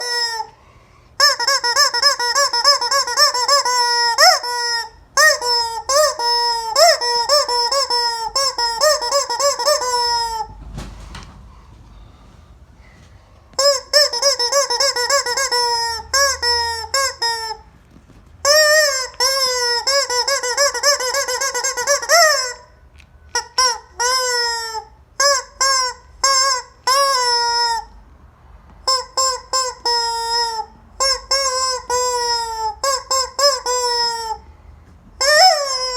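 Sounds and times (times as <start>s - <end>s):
rubber chicken squeak toy: 0.0s - 0.6s, 1.2s - 10.6s, 13.6s - 17.8s, 18.4s - 28.0s, 28.8s - 34.5s, 35.2s - 35.9s.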